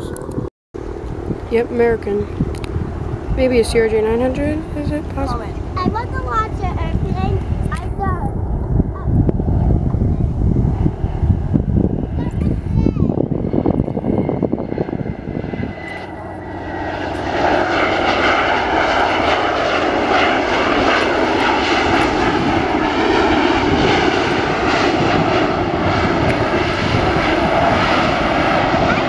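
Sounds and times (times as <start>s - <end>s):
jet engines roaring: 0.0s - 29.0s
thin engine whine: 0.0s - 29.0s.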